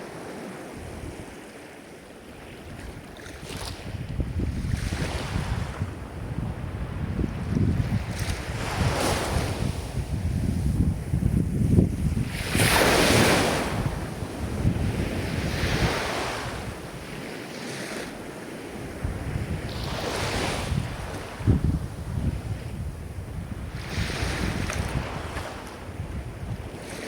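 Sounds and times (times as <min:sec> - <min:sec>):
ocean waves breaking on shore: 0:00.0 - 0:27.0
wind rumble on microphone: 0:00.7 - 0:01.4, 0:02.3 - 0:27.0.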